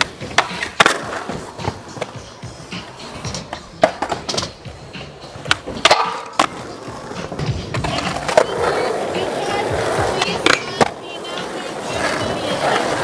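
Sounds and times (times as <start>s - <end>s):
skateboard wheels rolling on asphalt: 0.0s - 13.0s
skateboards popping and landing: 0.0s - 13.0s.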